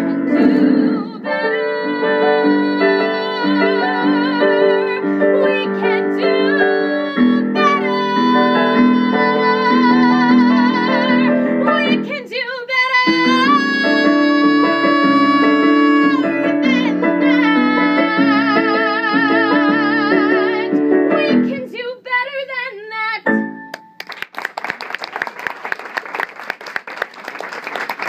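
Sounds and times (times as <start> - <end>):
piano accompaniment: 0.0 - 21.8, 23.2 - 24.3
woman singing with vibrato: 0.0 - 23.3.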